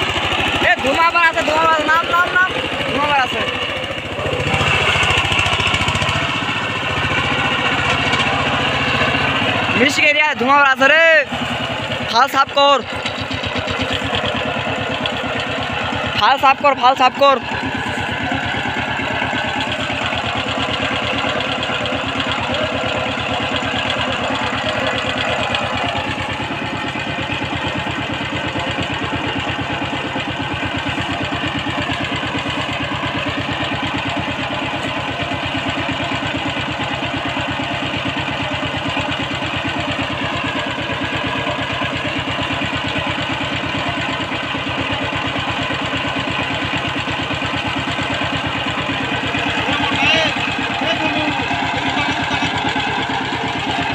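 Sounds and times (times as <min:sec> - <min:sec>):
tiller engine running: 0:00.0 - 0:53.9.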